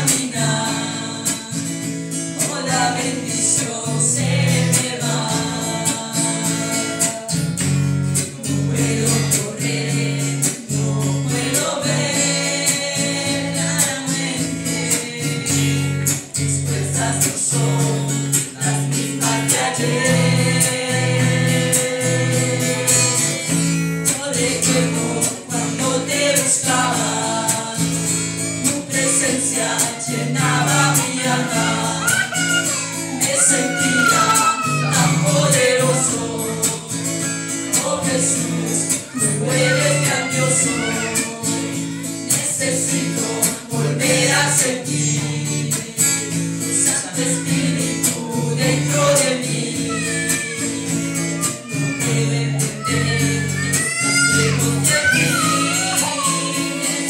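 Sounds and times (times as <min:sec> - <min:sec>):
man and woman singing: 0:00.0 - 0:57.0.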